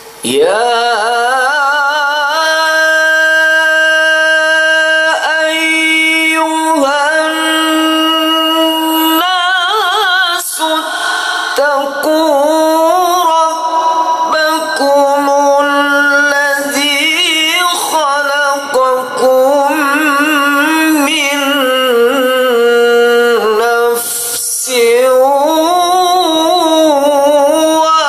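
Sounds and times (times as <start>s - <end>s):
man reciting melodically: 0.0s - 28.0s.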